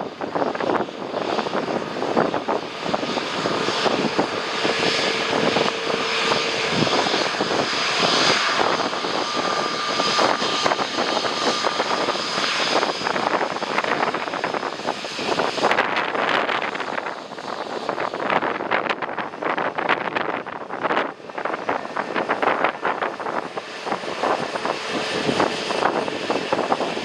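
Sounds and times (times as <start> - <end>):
jet airliner engines running: 0.0 - 27.0
wind buffeting microphone: 0.0 - 27.0.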